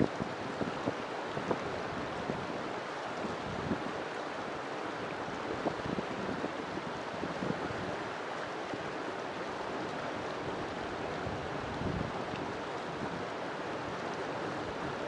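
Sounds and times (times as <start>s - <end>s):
river water flowing and splashing: 0.0s - 15.0s.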